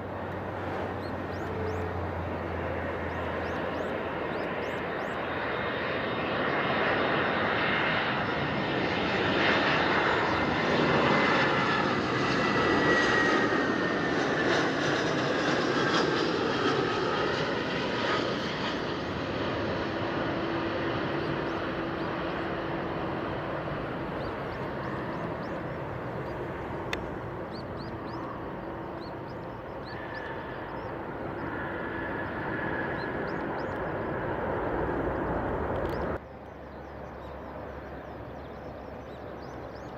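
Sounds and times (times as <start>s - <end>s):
jet airliner engine passing: 0.0s - 39.9s.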